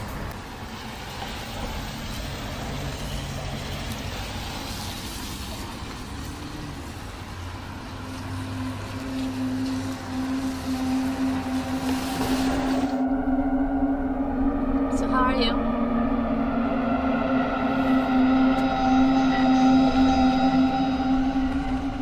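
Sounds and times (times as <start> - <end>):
passing cars: 0.0 - 22.0.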